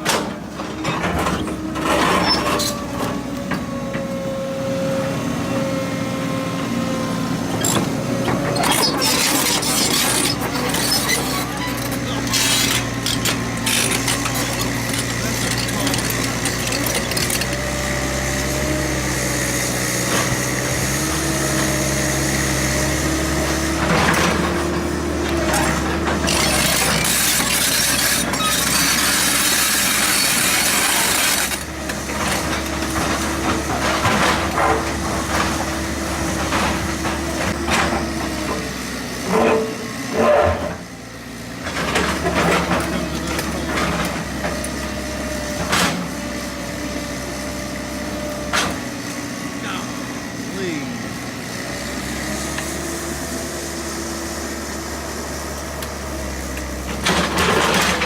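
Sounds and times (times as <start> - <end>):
diesel machine engine running: 0.0 - 58.0.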